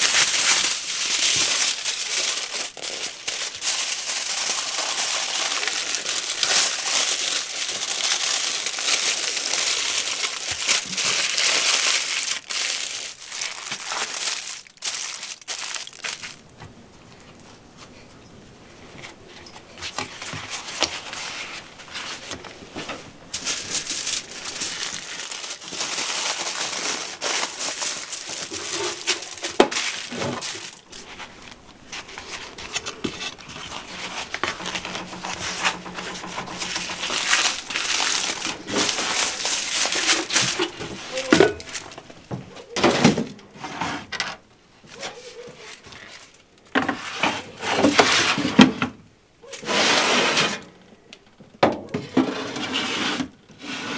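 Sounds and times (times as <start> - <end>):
aluminium foil crinkling: 0.0 - 16.5, 19.8 - 43.2, 44.9 - 48.5.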